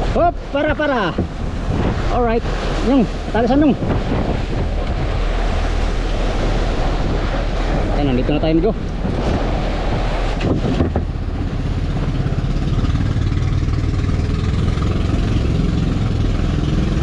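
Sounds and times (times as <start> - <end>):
boat engine droning: 0.0 - 17.0
sea noise: 0.0 - 17.0
wind: 0.0 - 17.0.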